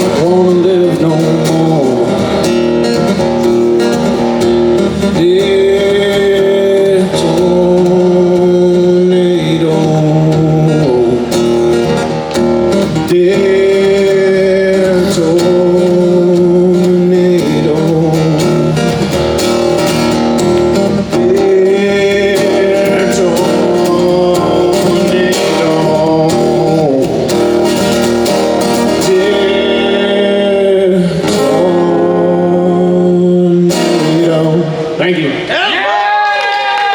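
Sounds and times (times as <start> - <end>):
acoustic guitar playing: 0.0 - 35.5.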